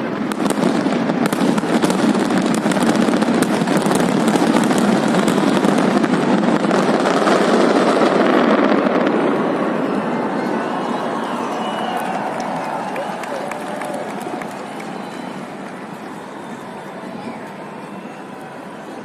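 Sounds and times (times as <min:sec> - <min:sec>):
fireworks crackling and popping: 0:00.0 - 0:18.8.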